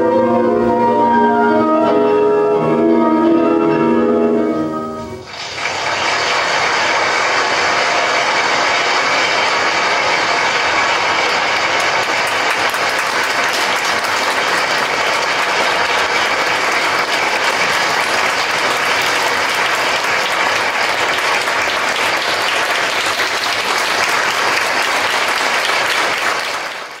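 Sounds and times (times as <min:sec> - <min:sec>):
audience applauding: 0:05.2 - 0:27.0.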